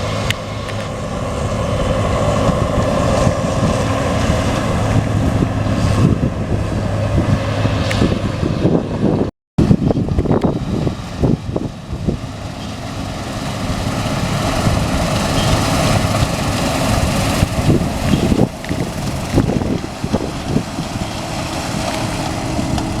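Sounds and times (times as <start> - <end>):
harvest machinery rumbling: 0.0 - 23.0
wind on microphone: 0.0 - 23.0.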